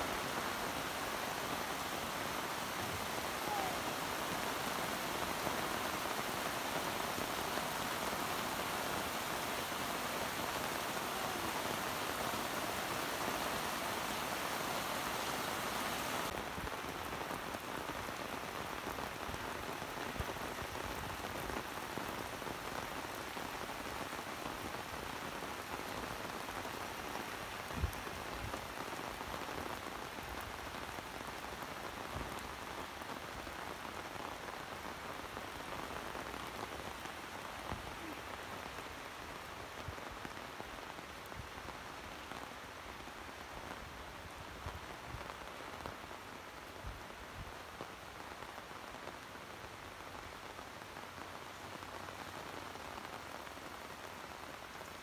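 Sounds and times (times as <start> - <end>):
heavy rain on metal roofs: 0.0 - 55.0.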